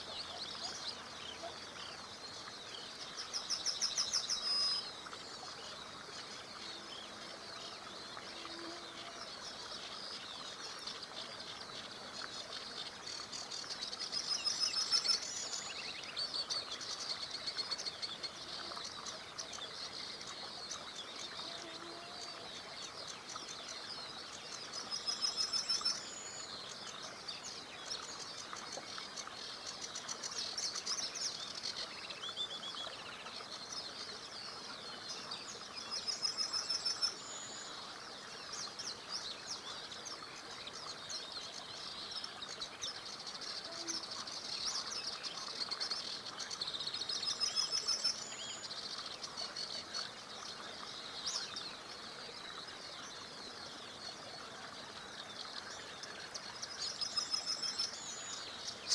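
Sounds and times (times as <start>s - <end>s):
songbirds chirping and singing: 0.0s - 58.9s.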